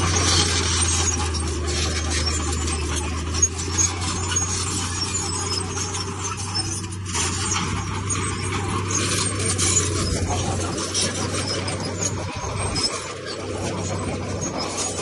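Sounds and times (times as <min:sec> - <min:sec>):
bulldozer diesel engine humming: 0:00.0 - 0:15.0
steel tracks clattering on rock: 0:00.0 - 0:15.0.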